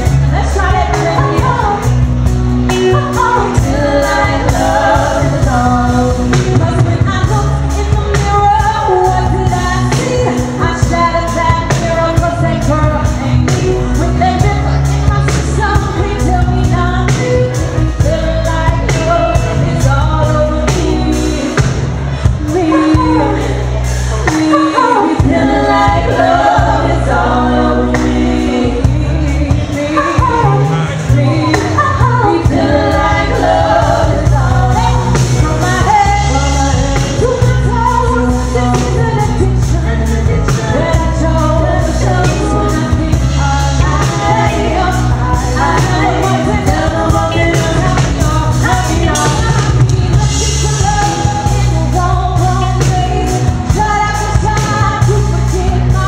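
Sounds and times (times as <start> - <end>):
bass guitar: 0.0 - 56.0
woman singing into microphone: 0.0 - 56.0.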